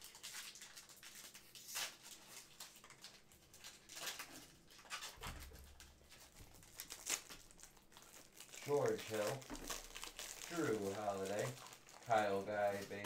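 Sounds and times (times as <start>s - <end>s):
cards and wrapper rustling: 0.0s - 13.0s.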